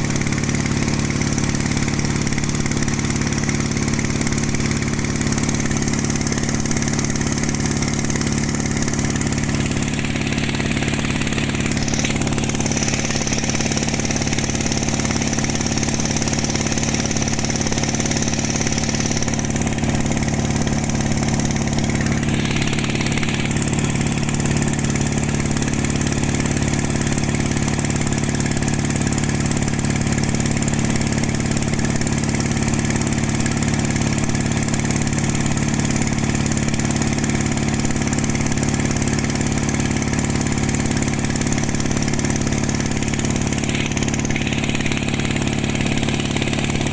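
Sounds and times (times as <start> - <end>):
boat diesel engine drone: 0.0 - 46.9.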